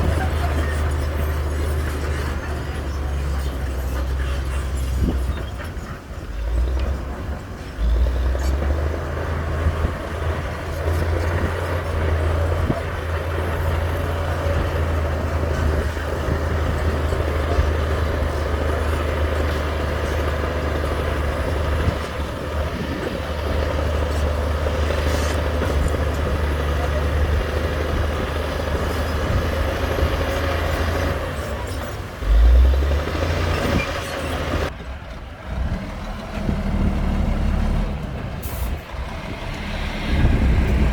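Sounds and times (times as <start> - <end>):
heavy machinery engine droning: 0.0 - 40.9.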